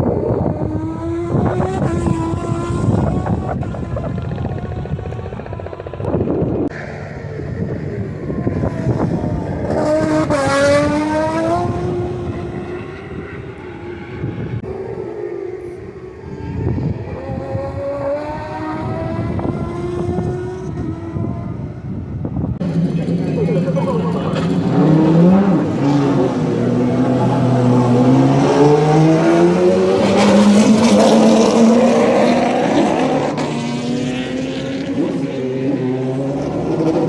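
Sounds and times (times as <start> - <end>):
race cars passing at speed: 0.0 - 37.0.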